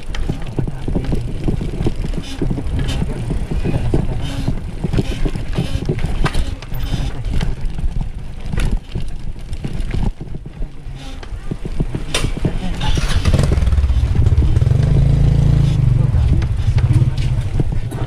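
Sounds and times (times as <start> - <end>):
bicycle rumble and rattles: 0.0 - 18.0.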